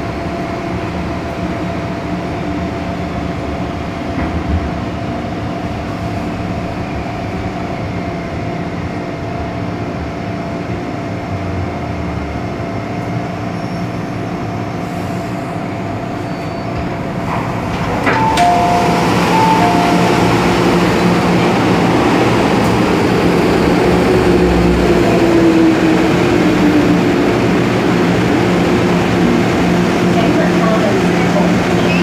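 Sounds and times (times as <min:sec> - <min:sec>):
train running noise: 0:00.0 - 0:32.0.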